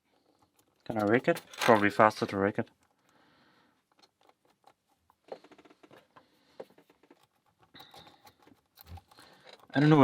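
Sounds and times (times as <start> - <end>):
lock pick clicking and scraping: 0.1 - 3.2, 3.8 - 10.0.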